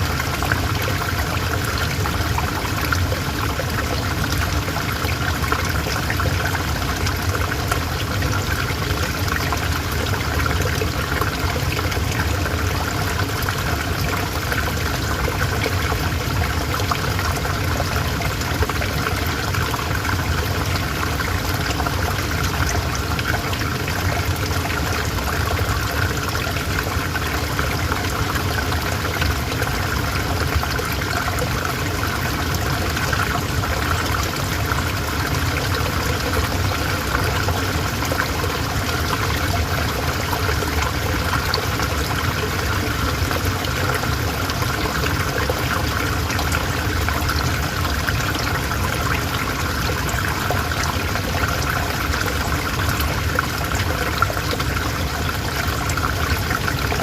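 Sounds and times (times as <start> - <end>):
calm river flowing: 0.0 - 57.0.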